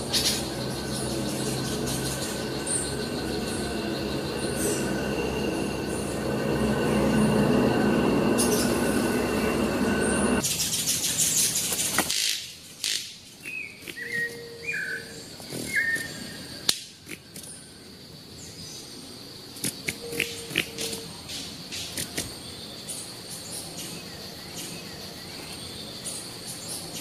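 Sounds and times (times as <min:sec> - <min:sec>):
loud insect drone with whining tones: 0:00.0 - 0:27.0.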